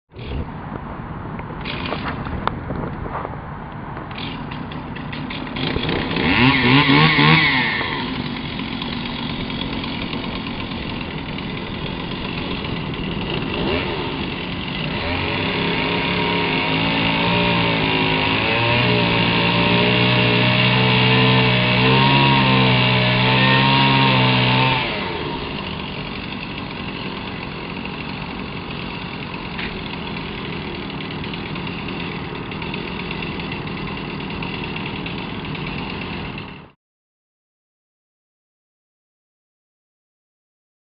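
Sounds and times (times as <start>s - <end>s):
engine running: 0.2s - 36.8s.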